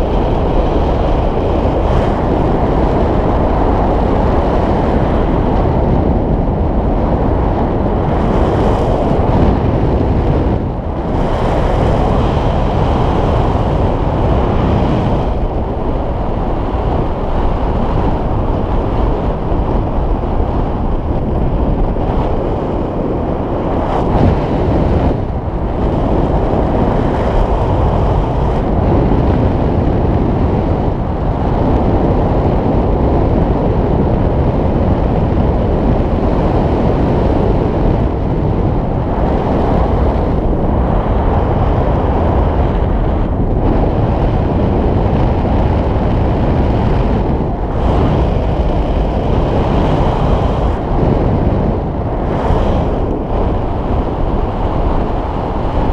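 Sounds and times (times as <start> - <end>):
wind noise on microphone: 0.0 - 55.9.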